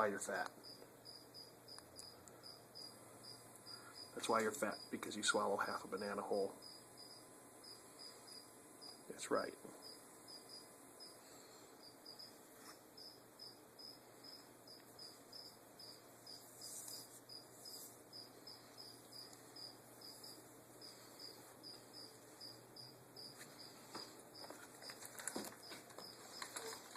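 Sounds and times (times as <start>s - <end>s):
cricket chirping: 0.6s - 26.9s.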